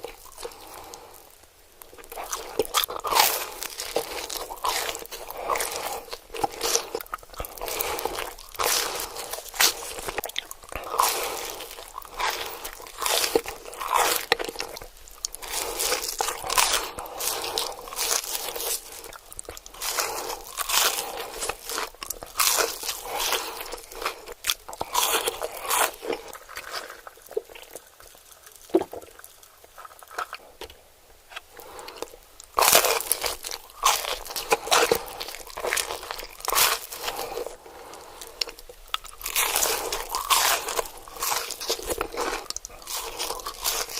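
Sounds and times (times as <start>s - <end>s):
crunchy eating bites: 0.0s - 30.8s, 31.4s - 43.9s.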